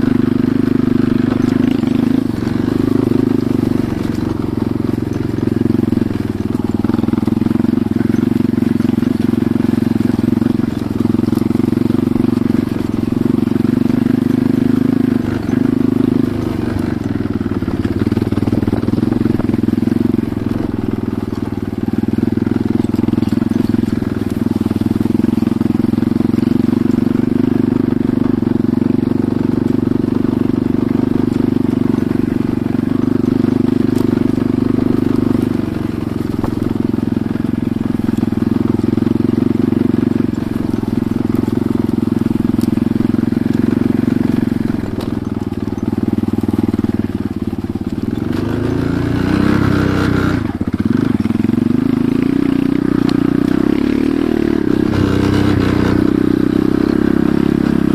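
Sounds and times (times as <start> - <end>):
motorcycle engine droning: 0.0 - 57.9.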